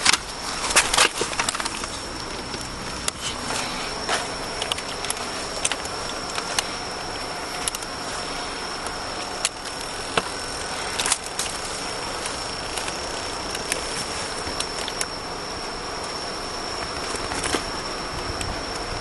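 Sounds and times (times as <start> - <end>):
roadside background noise: 0.0 - 19.0.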